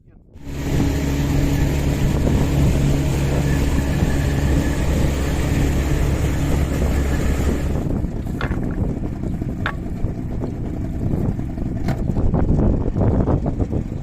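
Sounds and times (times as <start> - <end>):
boat motor running: 0.0 - 14.0
wind on microphone: 0.0 - 14.0.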